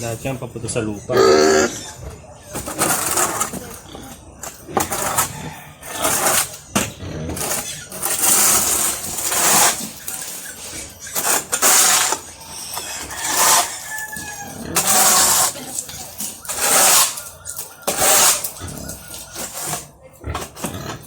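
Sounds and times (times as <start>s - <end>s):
shovel scraping concrete floor: 2.5s - 21.0s.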